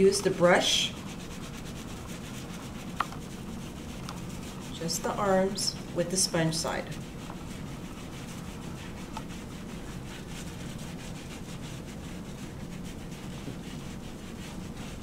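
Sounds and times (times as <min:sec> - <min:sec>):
sponge scrubbing soapy skin: 0:00.0 - 0:15.0.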